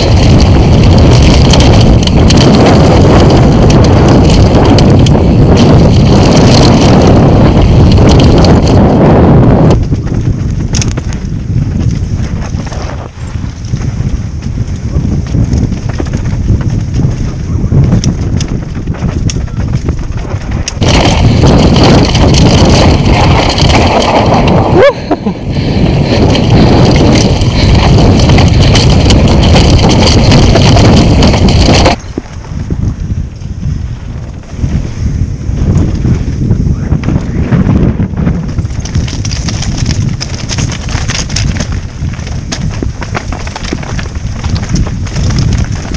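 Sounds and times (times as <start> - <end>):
bike tyres rumbling and rattling: 0.0 - 45.9
wind buffeting microphone: 0.0 - 45.9.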